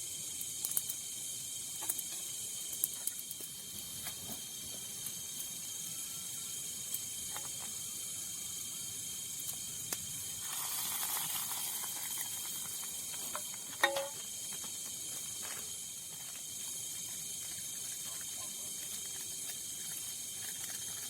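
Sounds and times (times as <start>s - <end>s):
night insects chorus: 0.3s - 21.0s.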